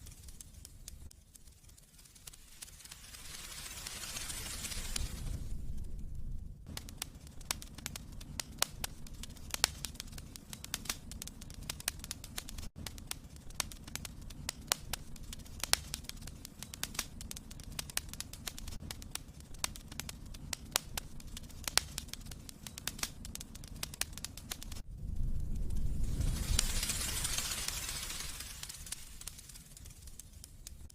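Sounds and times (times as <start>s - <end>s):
steady hiss: 0.0s - 6.0s, 6.7s - 30.9s
wood fire crackling and popping: 0.0s - 30.9s.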